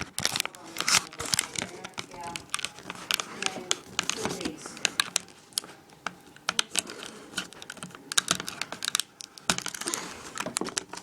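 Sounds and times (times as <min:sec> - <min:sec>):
knife cutting plastic packaging: 0:00.0 - 0:11.0.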